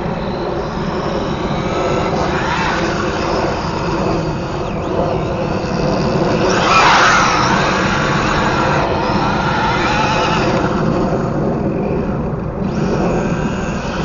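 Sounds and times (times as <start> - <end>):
electric rc car motor whining: 0.0 - 14.0
steady low rumble: 0.0 - 14.0.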